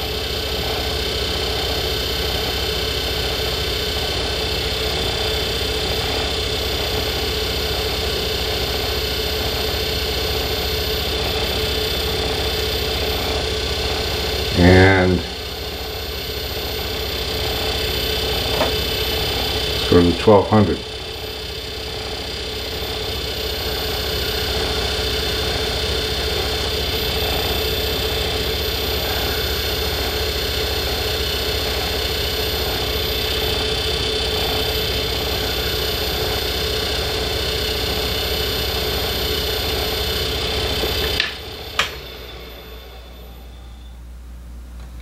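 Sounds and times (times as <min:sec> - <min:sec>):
lathe humming and whining: 0:00.0 - 0:45.0.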